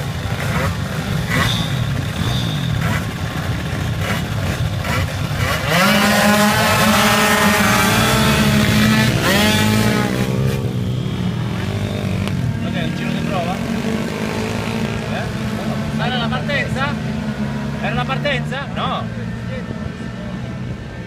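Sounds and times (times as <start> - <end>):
racing scooter engines revving: 0.0 - 21.0.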